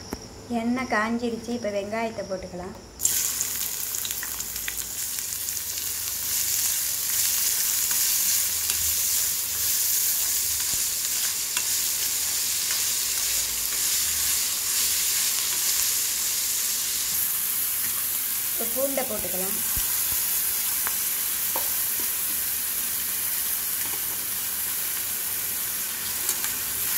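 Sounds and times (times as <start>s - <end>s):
onions sizzling in hot oil: 3.0s - 26.9s.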